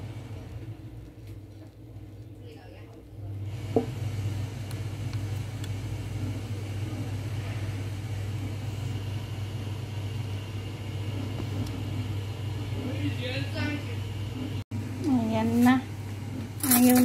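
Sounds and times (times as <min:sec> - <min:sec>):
coffee machine pump humming: 0:00.0 - 0:17.0.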